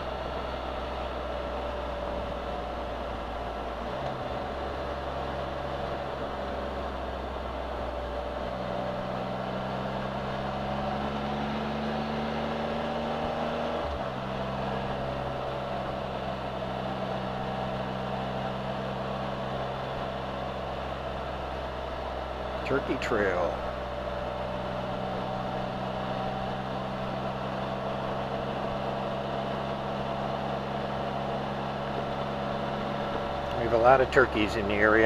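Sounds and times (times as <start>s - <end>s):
motorcycle engine cruising: 0.0s - 35.0s
wind and road noise: 0.0s - 35.0s.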